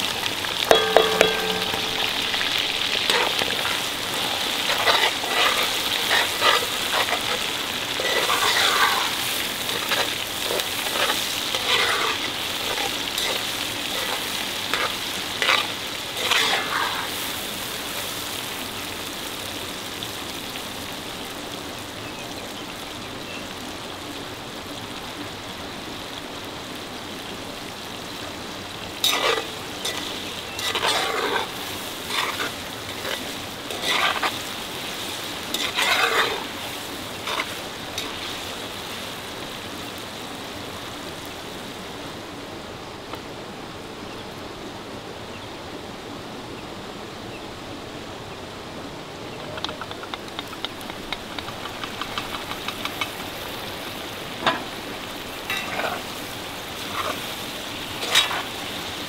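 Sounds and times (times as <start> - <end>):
food sizzling in a pan: 0.0 - 23.9, 27.2 - 42.2, 50.4 - 59.0.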